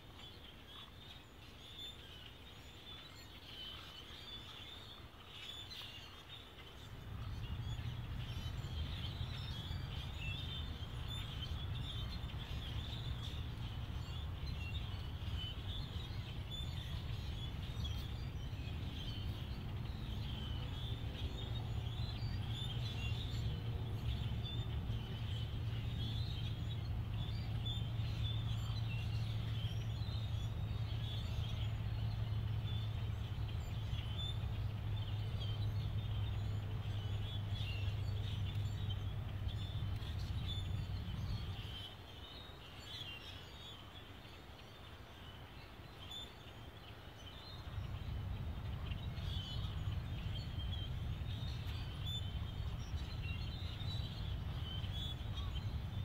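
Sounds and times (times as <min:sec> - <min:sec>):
flock of birds chattering: 0:00.0 - 0:56.0.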